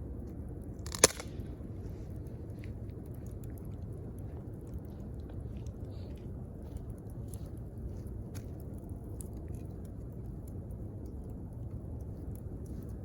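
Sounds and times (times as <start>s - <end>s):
steady low rumble: 0.0s - 13.0s
campfire crackling and popping: 0.2s - 13.0s.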